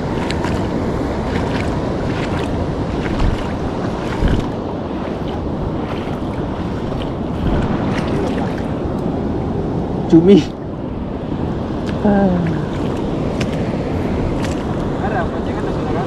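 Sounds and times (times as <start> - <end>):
surf washing on reef: 0.0 - 11.9, 12.5 - 16.0
wind on microphone: 0.0 - 16.0.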